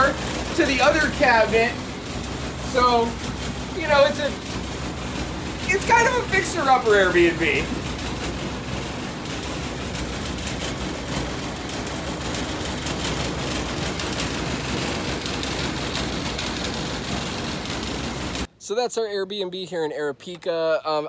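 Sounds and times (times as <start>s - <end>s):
laundry machine whirring: 0.0s - 18.5s.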